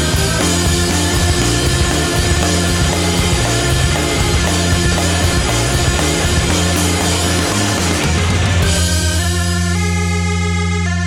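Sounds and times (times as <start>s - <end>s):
rock music with distorted guitar: 0.0s - 11.0s.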